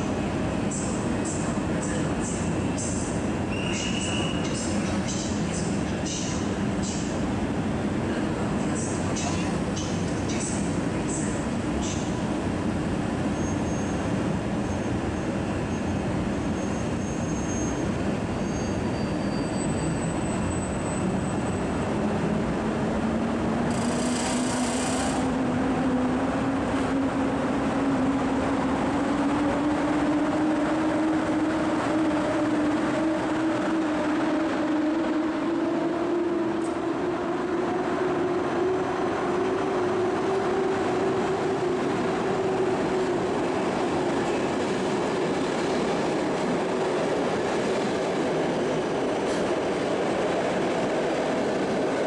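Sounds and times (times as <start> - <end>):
train rumbling with rising whine: 0.0 - 52.0.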